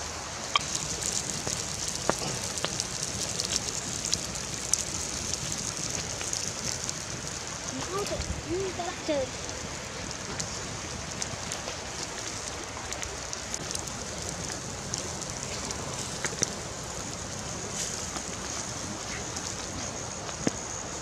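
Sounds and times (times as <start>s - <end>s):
coals crackling and popping: 0.0s - 21.0s
fish sizzling on grill: 0.0s - 21.0s.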